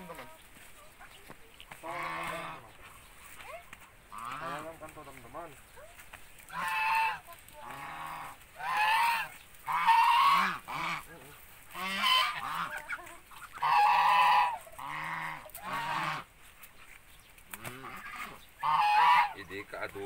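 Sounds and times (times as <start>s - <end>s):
soft low duck calls: 0.0s - 5.9s, 6.5s - 16.6s, 17.4s - 20.0s
ducks honking distress calls: 0.0s - 20.0s.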